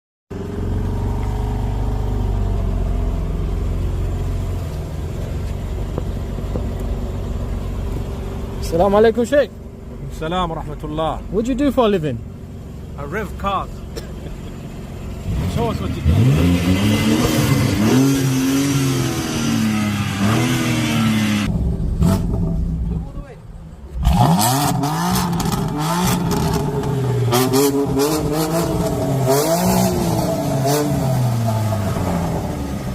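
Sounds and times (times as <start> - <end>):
car engine idling: 0.3 - 32.9.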